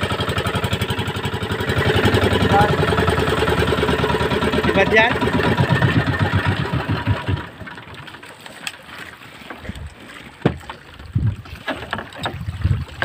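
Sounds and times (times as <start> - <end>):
boat engine stopping: 0.0 - 12.5
water around boat: 0.0 - 13.0
wind: 0.0 - 13.0.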